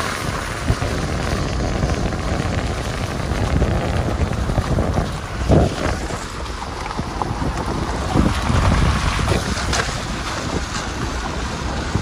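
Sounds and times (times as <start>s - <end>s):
vehicle rumble: 0.0s - 12.0s
wind buffeting microphone: 0.0s - 12.0s.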